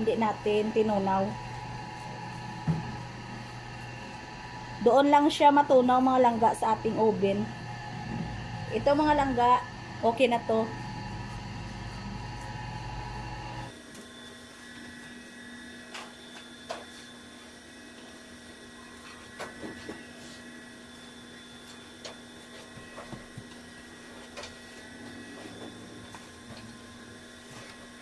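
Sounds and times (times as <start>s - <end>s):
low hum: 0.0s - 28.0s
steady background hum: 0.0s - 28.0s.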